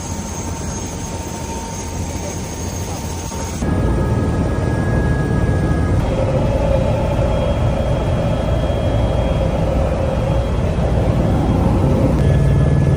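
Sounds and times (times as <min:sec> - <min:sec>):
helicopter engine and rotor drone: 0:00.0 - 0:12.9.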